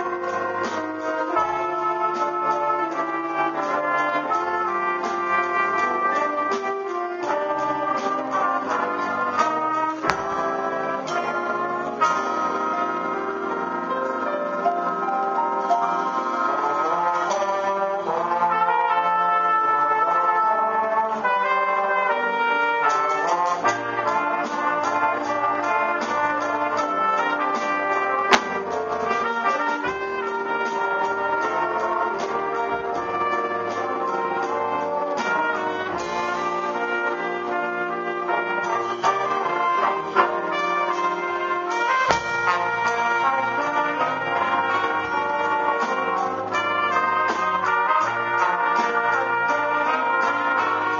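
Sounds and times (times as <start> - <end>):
jazz band playing: 0.0 - 50.9
trumpet solo: 0.0 - 50.9.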